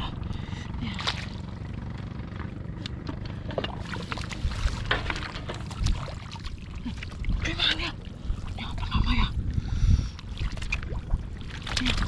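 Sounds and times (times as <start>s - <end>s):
steady low rumble: 0.0s - 12.0s
water sloshing and splashing: 0.1s - 12.0s.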